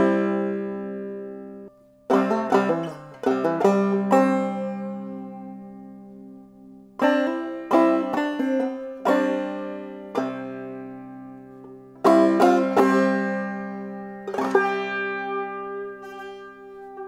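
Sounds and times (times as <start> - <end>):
clawhammer banjo: 0.0 - 17.0.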